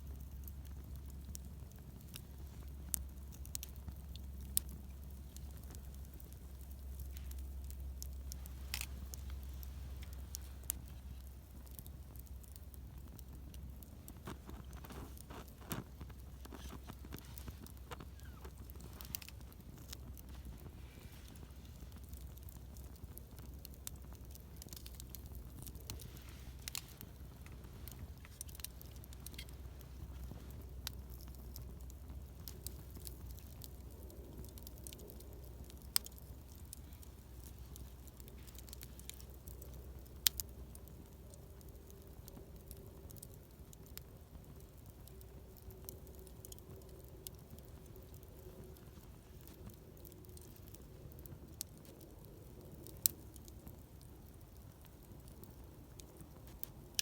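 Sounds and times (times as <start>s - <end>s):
wood campfire crackling: 0.0s - 57.0s.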